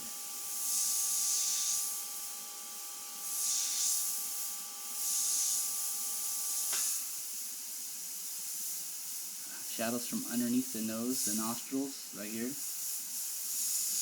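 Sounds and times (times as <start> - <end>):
airbrush hissing bursts: 0.0 - 14.0.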